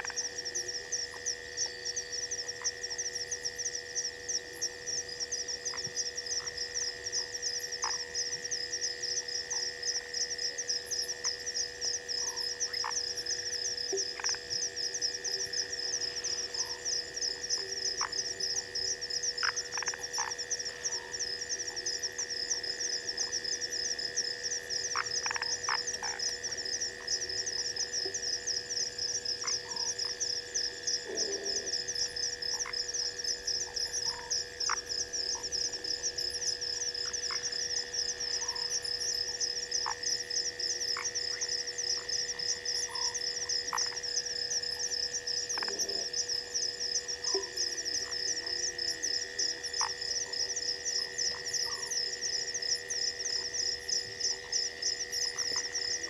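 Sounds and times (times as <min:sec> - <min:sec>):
frog croak: 0:00.0 - 0:56.0
high-pitched insect trill: 0:00.0 - 0:56.0.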